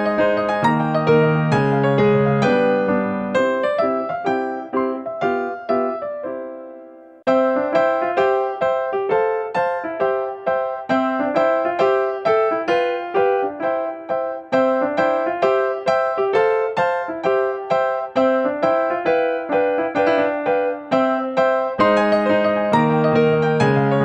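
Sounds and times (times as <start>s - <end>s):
cheerful keyboard melody: 0.0s - 24.0s.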